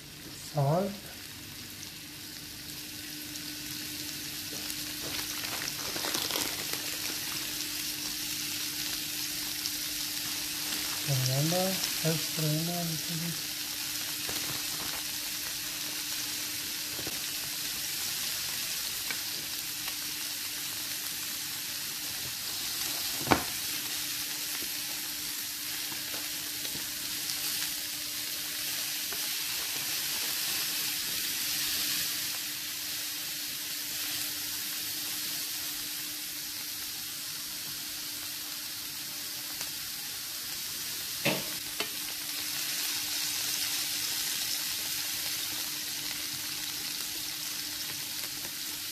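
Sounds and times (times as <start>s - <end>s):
vegetables sizzling in oil: 0.0s - 48.9s.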